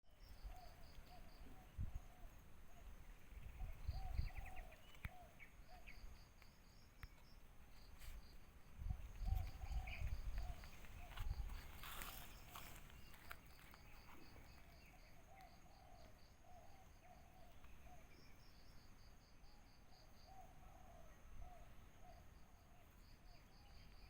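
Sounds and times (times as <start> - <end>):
insect chirping: 0.1 - 24.0.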